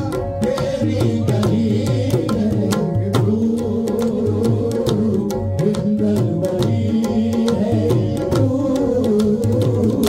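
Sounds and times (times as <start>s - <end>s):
tabla strokes: 0.0s - 10.0s.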